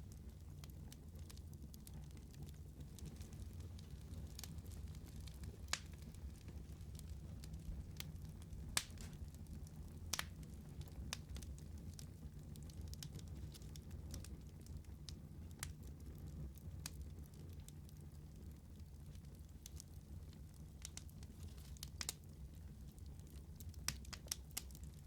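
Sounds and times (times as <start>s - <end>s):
low rumble of burning: 0.0s - 25.0s
wood fire crackling: 0.0s - 25.0s.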